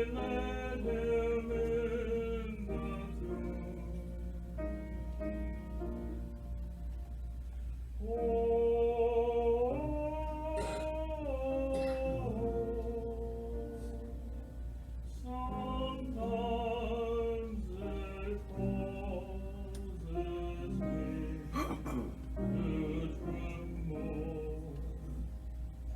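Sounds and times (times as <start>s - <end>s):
choir singing a hymn: 0.0s - 5.4s, 8.0s - 14.4s, 15.1s - 25.5s.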